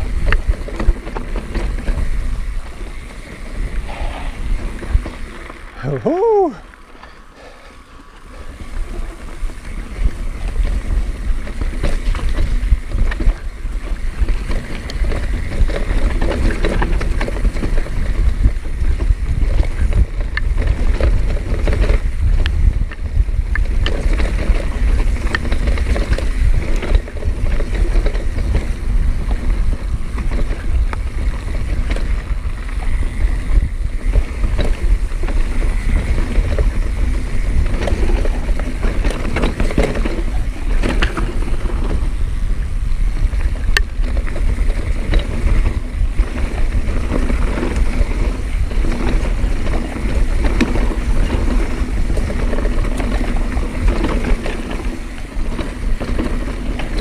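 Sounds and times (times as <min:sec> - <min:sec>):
bike clicking and rattling: 0:00.0 - 0:57.0
bike tyres rumbling over dirt: 0:00.0 - 0:57.0
wind buffeting microphone: 0:00.0 - 0:57.0.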